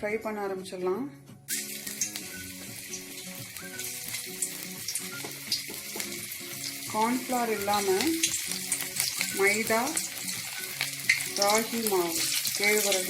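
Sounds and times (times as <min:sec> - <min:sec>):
faint background music: 0:00.0 - 0:13.0
battered food sizzling in hot oil: 0:01.5 - 0:13.0.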